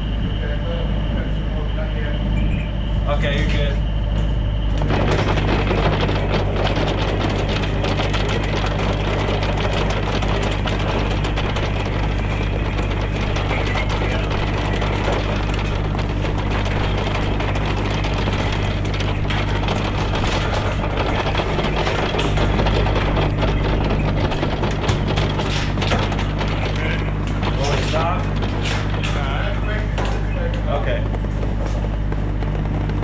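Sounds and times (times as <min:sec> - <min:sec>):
backhoe engine running: 0:03.4 - 0:33.0.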